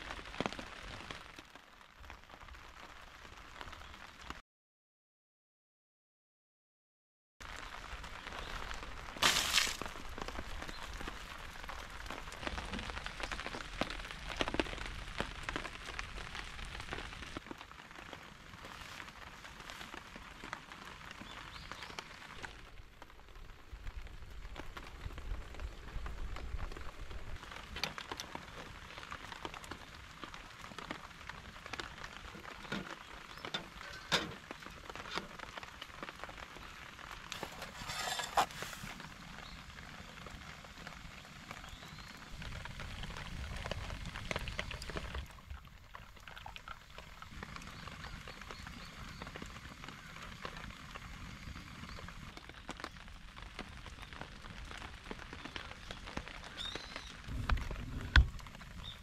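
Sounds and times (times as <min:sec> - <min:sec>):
rain falling: 0:00.0 - 0:04.4, 0:07.4 - 0:59.0.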